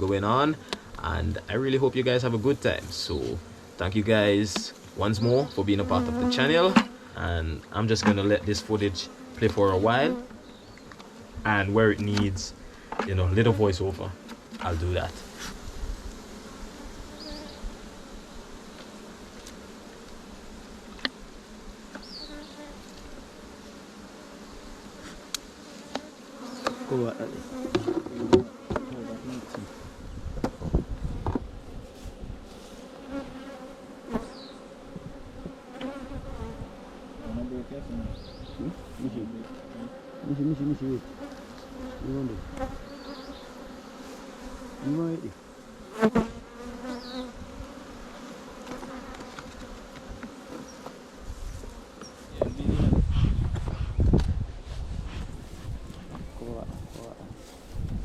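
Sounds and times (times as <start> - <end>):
honey bees buzzing: 0.0 - 58.0.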